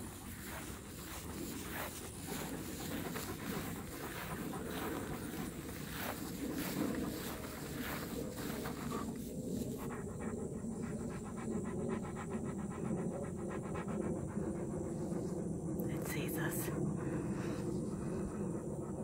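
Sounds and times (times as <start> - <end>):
dog panting: 0.0 - 15.8, 16.4 - 19.0.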